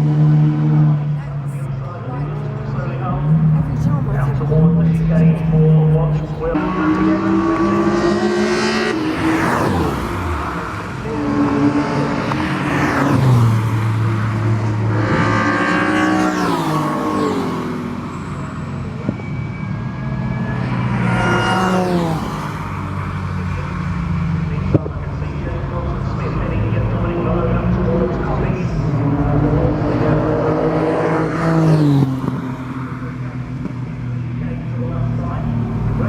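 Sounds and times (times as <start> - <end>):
racing cars passing at high revs: 0.0 - 36.0.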